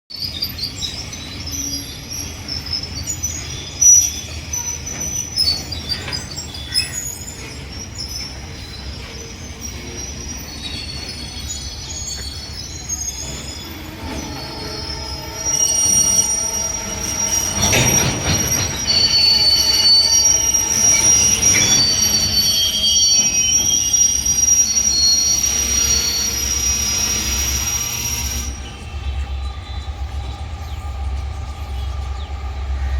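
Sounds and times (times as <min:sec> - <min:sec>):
train wheels squealing: 0:00.1 - 0:32.9
freight train rumbling past: 0:00.2 - 0:32.9.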